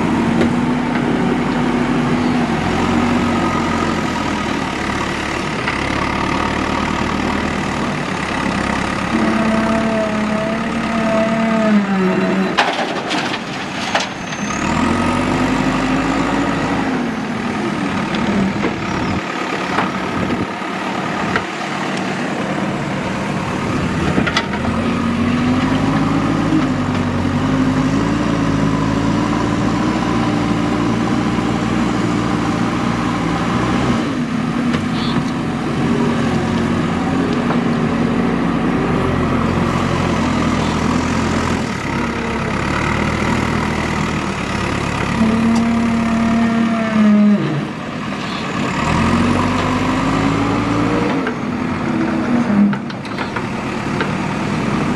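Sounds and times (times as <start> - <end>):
backhoe diesel engine revving: 0.0 - 54.9.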